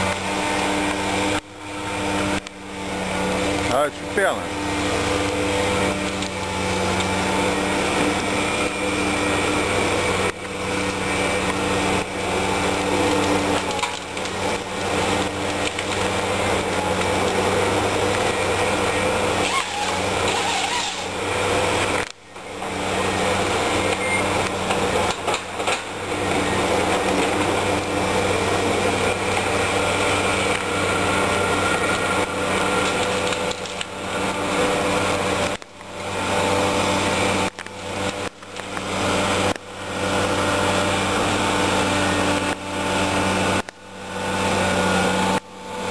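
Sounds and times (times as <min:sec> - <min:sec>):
diesel engine running: 0:00.0 - 0:45.9
hydraulics whining: 0:00.0 - 0:45.9.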